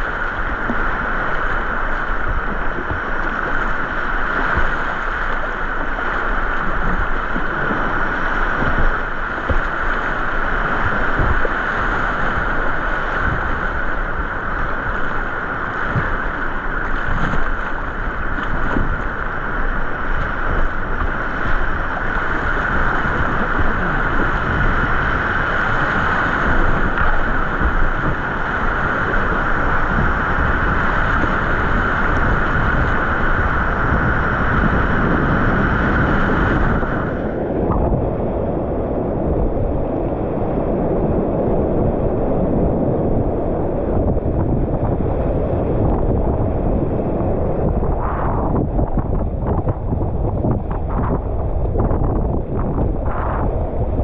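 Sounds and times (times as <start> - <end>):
whitewater rushing: 0.0 - 54.0
wind buffeting microphone: 0.0 - 54.0.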